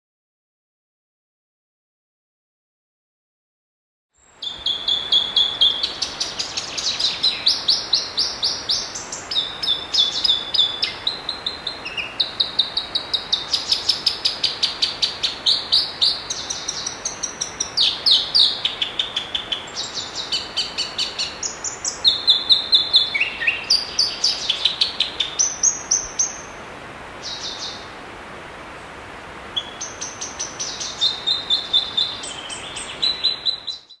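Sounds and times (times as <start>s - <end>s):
faint steady hiss: 4.2s - 34.0s.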